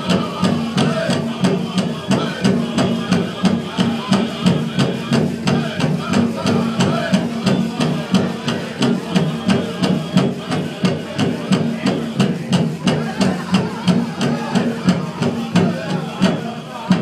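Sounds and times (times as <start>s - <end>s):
large drum beating: 0.0s - 17.0s
people singing: 0.0s - 17.0s.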